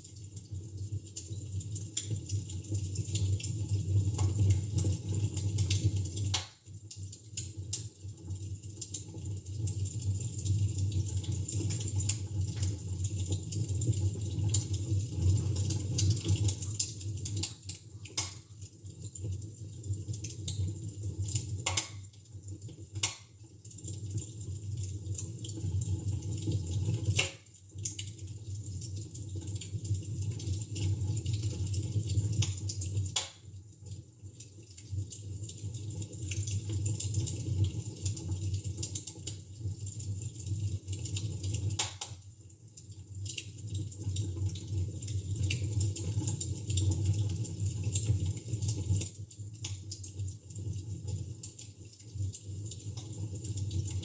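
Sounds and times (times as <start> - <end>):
fire crackling in fireplace: 0.1 - 54.0.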